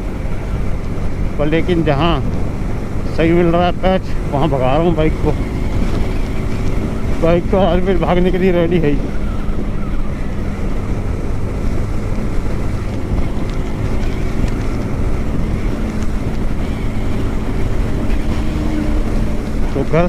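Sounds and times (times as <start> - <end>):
motorcycle engine cruising: 0.0 - 20.0
wind rumble on microphone: 0.0 - 20.0.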